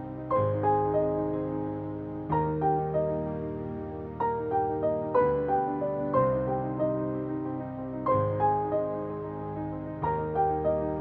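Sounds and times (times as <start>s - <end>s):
gentle keyboard music: 0.0s - 11.0s.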